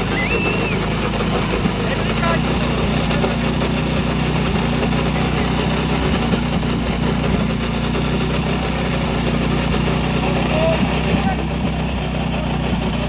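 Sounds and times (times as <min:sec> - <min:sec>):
pump engine idling: 0:00.0 - 0:13.0.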